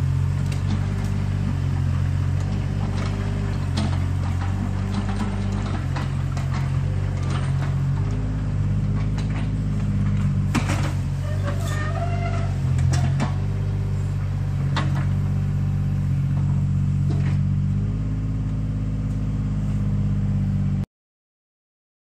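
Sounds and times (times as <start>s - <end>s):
excavator diesel engine running: 0.0s - 20.8s.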